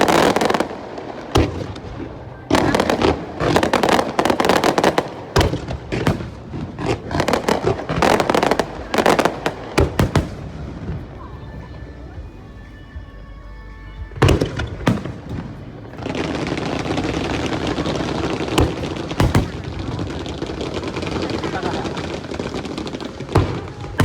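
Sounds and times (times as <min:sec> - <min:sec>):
fireworks bursting with sharp bangs: 0:00.0 - 0:13.1, 0:14.0 - 0:24.0.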